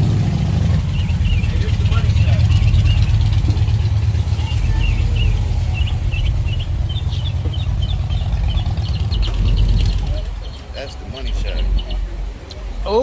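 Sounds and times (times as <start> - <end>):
car engine idling: 0.0 - 13.0
small birds chirping: 0.0 - 13.0.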